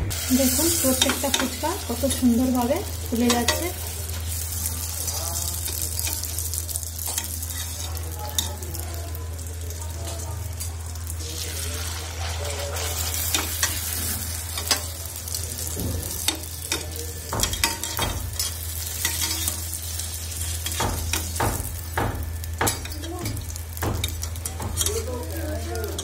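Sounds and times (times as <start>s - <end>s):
oil sizzling: 0.0s - 26.0s.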